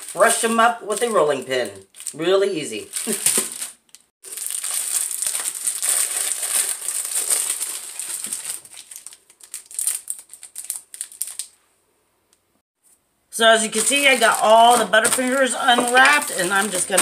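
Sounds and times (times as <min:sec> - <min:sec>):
plastic wrappers crinkling: 0:00.0 - 0:02.2, 0:02.8 - 0:11.6, 0:13.4 - 0:17.0.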